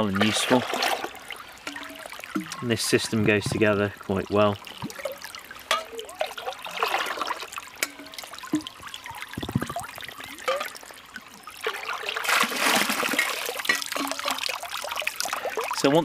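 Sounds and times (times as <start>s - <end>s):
water pouring into filter bag: 0.0s - 5.4s, 6.1s - 16.0s
shallow stream trickling: 0.0s - 16.0s.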